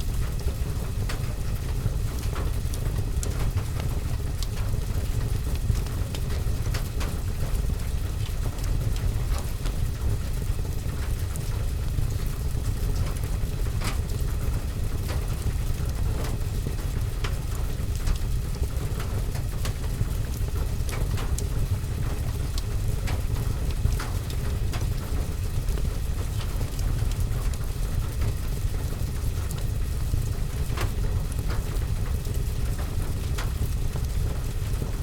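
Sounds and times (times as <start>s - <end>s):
rain rumble: 0.0s - 35.0s
fire crackling: 6.9s - 35.0s.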